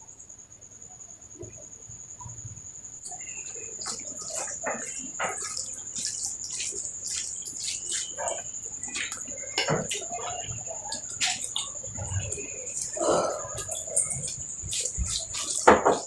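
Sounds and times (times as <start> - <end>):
wet chewing and smacking: 3.0 - 16.0.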